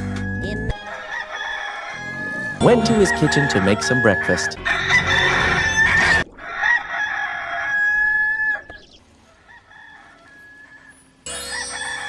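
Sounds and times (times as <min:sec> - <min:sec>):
rooster crowing: 0:00.1 - 0:12.0.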